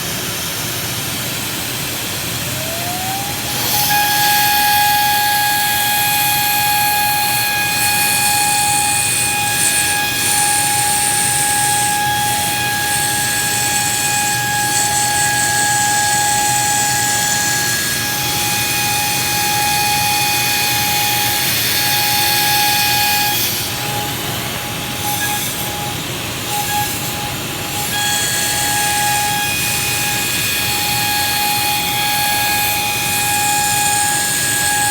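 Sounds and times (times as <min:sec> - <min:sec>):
power tool motor whine: 0:00.0 - 0:34.9.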